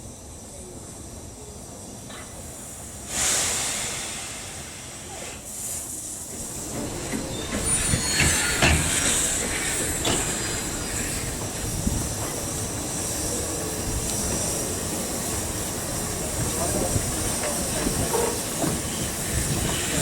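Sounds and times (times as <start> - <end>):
steam hissing: 0.0 - 20.0
train rumbling: 0.8 - 20.0
train clanks: 2.0 - 20.0.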